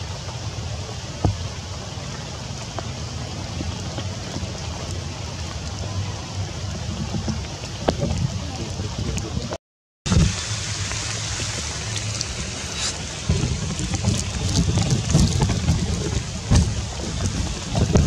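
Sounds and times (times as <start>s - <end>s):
water dripping: 0.0s - 9.5s, 10.1s - 18.0s
rain hissing in trees: 0.0s - 18.0s
wind buffeting microphone: 1.0s - 18.0s.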